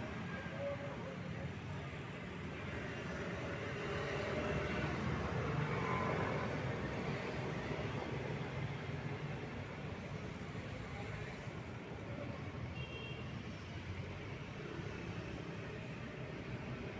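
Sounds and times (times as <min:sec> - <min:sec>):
road traffic hum: 0:00.0 - 0:16.9.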